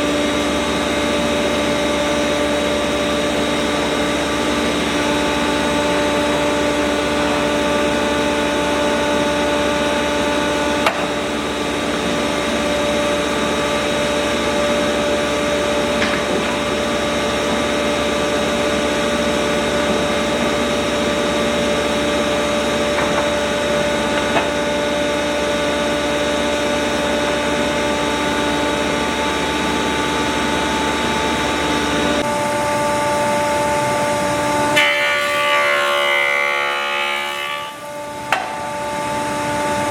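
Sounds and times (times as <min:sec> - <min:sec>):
workshop machinery whining: 0:00.0 - 0:39.9.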